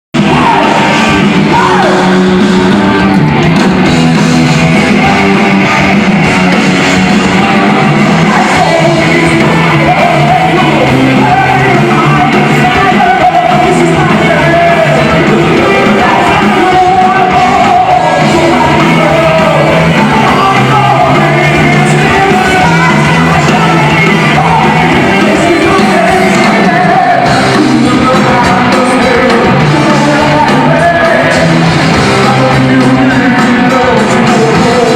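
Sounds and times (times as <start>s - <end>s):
heavy metal band playing live: 0.2s - 34.9s
person singing: 0.2s - 34.9s.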